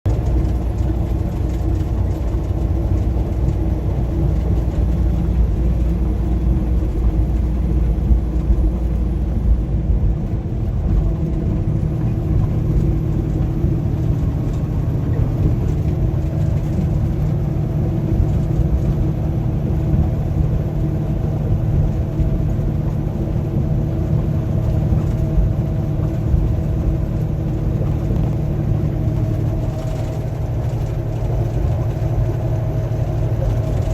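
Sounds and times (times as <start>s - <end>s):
vehicle engine and road rumble: 0.0s - 33.9s.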